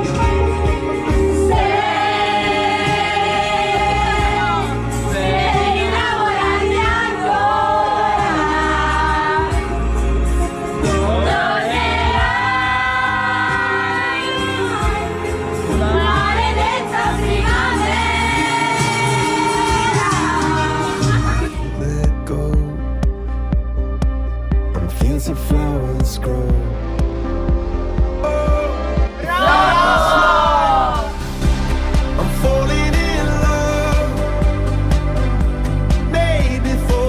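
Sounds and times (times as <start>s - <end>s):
pop song with layered vocals: 0.0s - 37.0s.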